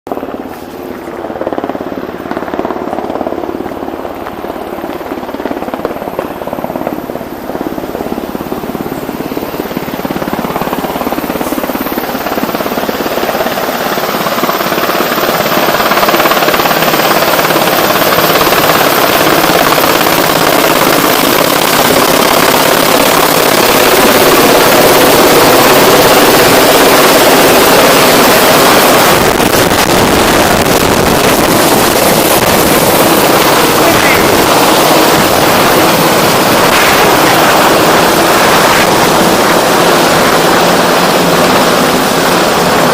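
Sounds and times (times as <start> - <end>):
helicopter rotor hum: 0.1 - 42.9.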